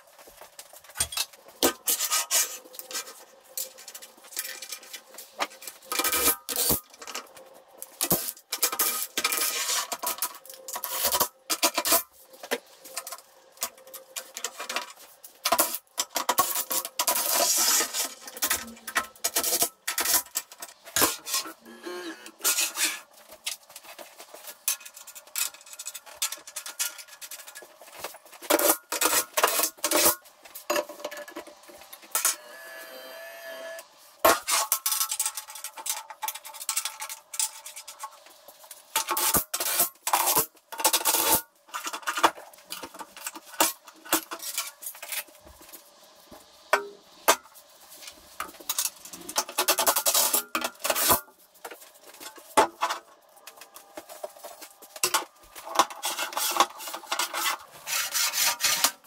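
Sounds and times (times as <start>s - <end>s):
scraping and rasping on metal: 0.9s - 7.4s, 8.0s - 32.5s, 33.8s - 45.4s, 46.8s - 59.0s.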